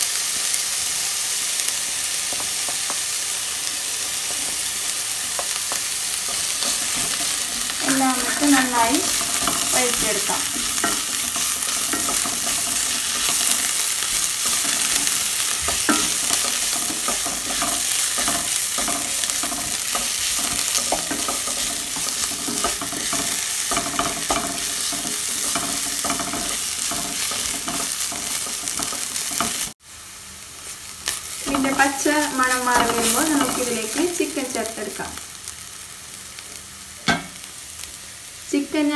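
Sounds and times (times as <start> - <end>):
onions sizzling in hot oil: 0.0 - 38.9
spoon stirring and scraping pan: 1.8 - 29.8, 30.7 - 34.9.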